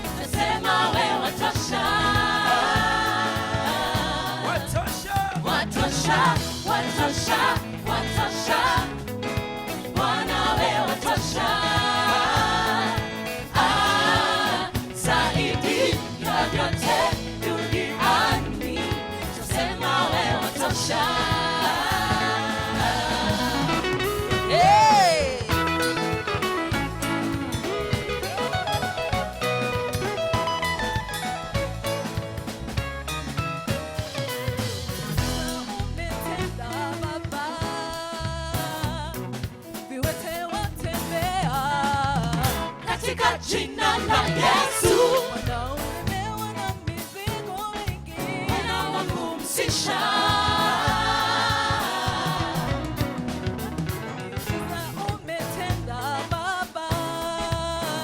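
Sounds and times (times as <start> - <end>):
people singing: 0.0 - 26.1, 35.0 - 58.0
bass: 0.0 - 58.0
drum kit beat: 0.0 - 58.0
gospel band instrumental: 0.0 - 58.0.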